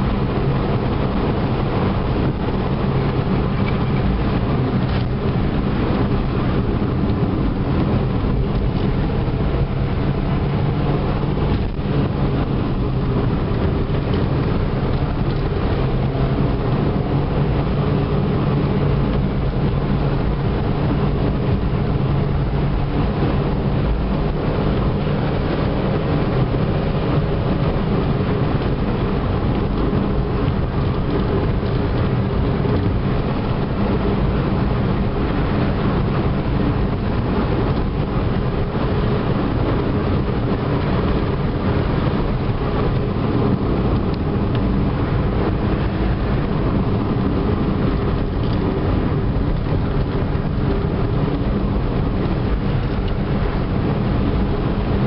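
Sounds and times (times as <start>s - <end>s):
car engine pulling: 0.0s - 55.0s
tyre and road noise: 0.0s - 55.0s.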